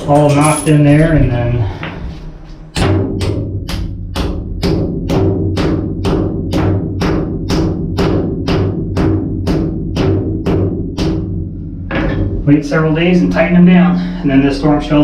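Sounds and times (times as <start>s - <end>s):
held low notes: 0.0s - 15.0s
steady drum beat: 0.0s - 15.0s.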